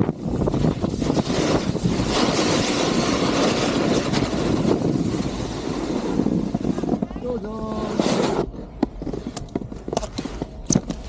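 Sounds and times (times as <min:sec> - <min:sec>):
wind rushing over microphone: 0:00.0 - 0:09.7
skis scraping snow: 0:00.2 - 0:11.0.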